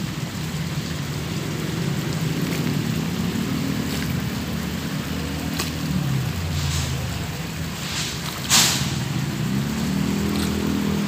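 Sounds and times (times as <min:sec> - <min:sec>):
outdoor hiss: 0:00.0 - 0:11.0.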